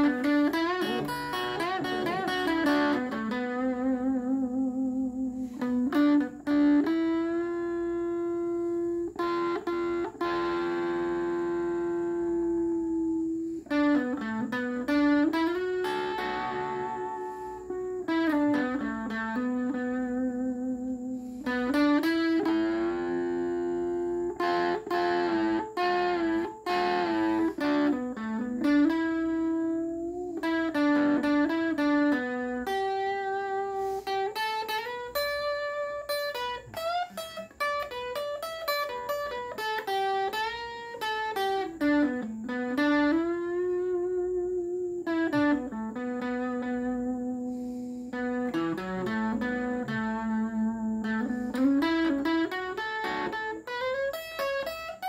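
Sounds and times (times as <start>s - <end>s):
solo guitar melody: 0.0s - 55.0s.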